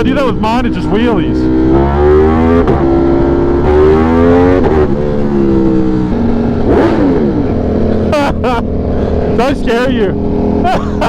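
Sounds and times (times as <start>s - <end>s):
motorcycle engine accelerating: 0.0s - 11.0s
passing engine note: 0.8s - 10.7s.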